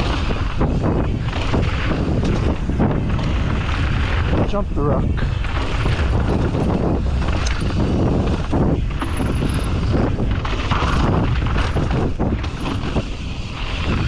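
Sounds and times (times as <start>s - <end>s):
bike chain and frame clattering: 0.0s - 4.6s, 5.2s - 14.0s
tyres on dirt and rock: 0.0s - 14.0s
wind buffeting microphone: 0.0s - 14.0s.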